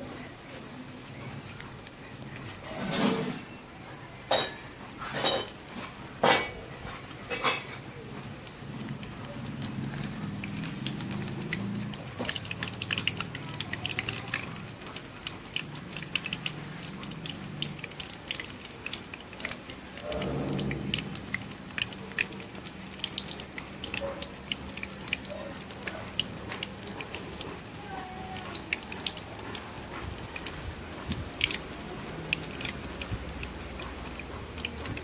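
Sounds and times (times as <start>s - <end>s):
eggs sizzling in hot oil: 0.0s - 35.0s.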